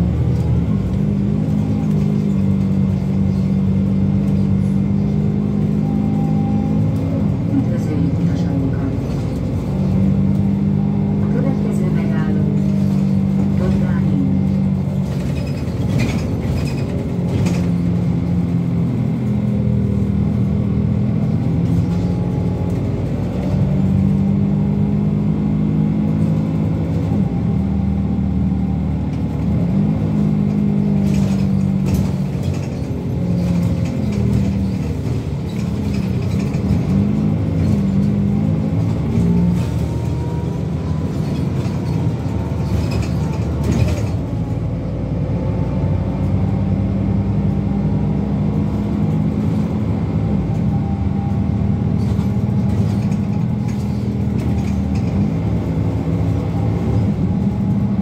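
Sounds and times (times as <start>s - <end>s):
bus engine running: 0.0s - 58.0s.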